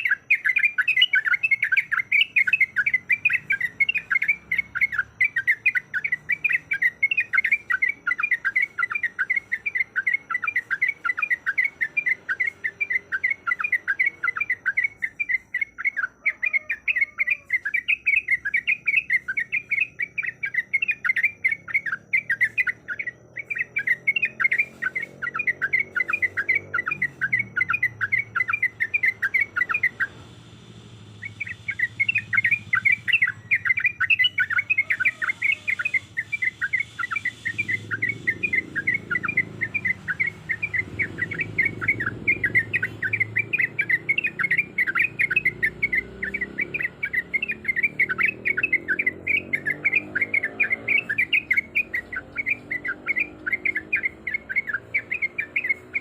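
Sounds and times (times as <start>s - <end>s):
bulbul chirping: 0.0s - 56.0s.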